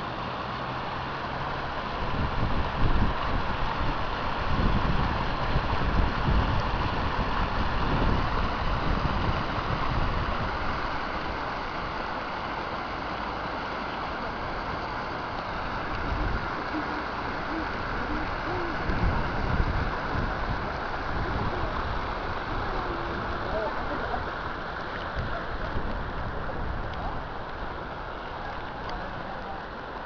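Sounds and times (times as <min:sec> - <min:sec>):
floodwater roaring: 0:00.0 - 0:30.0
wind buffeting microphone: 0:01.3 - 0:12.5, 0:14.0 - 0:29.6.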